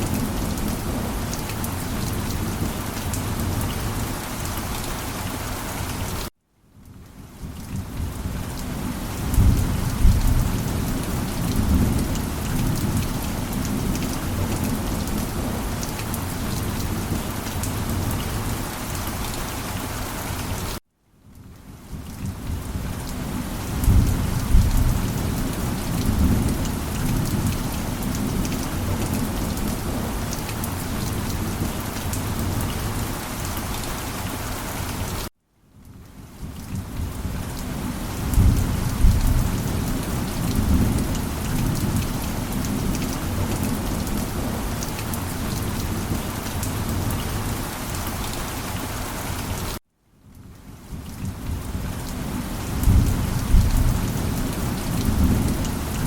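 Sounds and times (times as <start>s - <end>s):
heavy rain: 0.0s - 20.8s, 21.4s - 56.0s.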